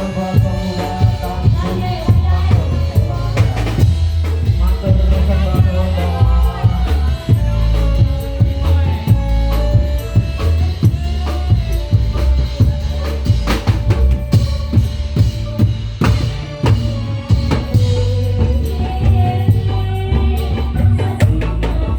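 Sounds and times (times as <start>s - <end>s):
dense drumming: 0.0s - 21.9s
heavy bass drum strokes: 0.0s - 21.9s
held melody line: 0.0s - 21.9s
sharp percussion hits: 0.0s - 21.9s.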